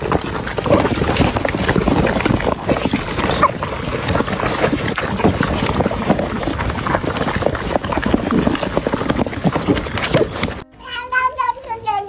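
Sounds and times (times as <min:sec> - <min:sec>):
dogs chewing from metal trough: 0:00.0 - 0:10.6.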